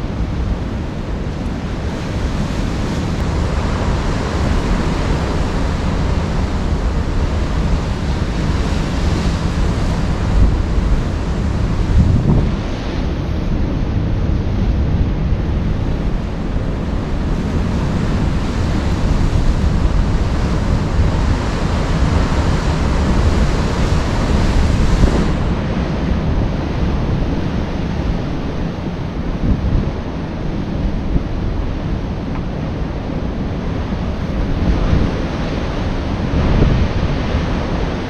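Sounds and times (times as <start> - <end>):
sea waves surging: 0.0 - 38.0
wind buffeting microphone: 0.0 - 38.0.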